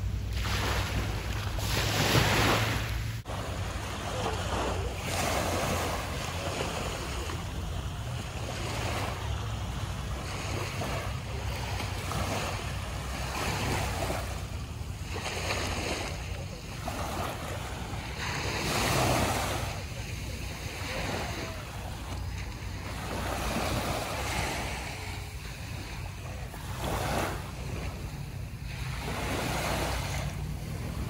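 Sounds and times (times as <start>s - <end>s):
sea waves breaking: 0.0s - 31.0s.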